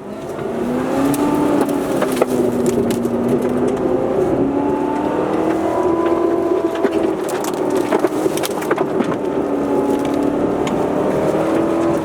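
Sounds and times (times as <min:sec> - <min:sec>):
car engine running at mid revs: 0:00.0 - 0:12.0.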